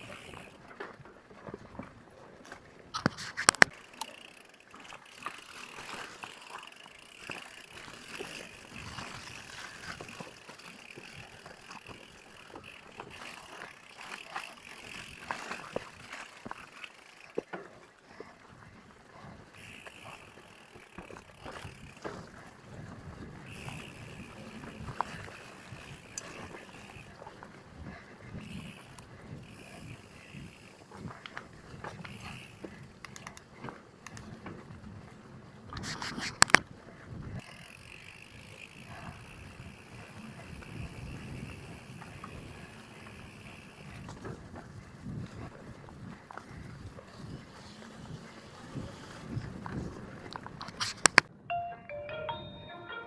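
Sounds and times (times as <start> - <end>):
mountain bike rolling and rattling: 0.0 - 51.4.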